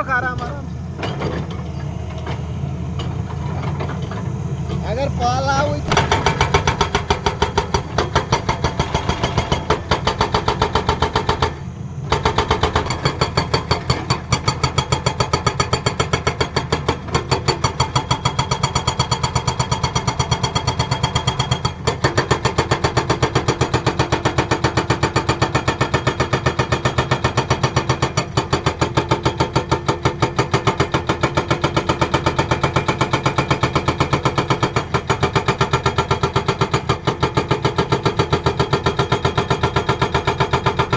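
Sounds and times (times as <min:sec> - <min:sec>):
excavator engine running: 0:00.0 - 0:40.9
hydraulic rock breaker hammering: 0:00.0 - 0:40.9.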